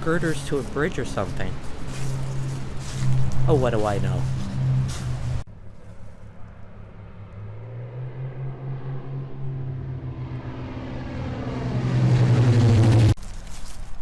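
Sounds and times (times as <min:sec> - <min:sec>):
airplane engine droning: 0:00.0 - 0:13.2.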